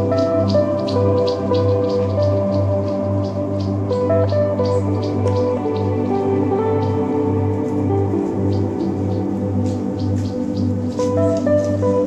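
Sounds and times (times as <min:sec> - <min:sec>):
held melody notes: 0:00.0 - 0:12.0
low drone: 0:00.0 - 0:12.0.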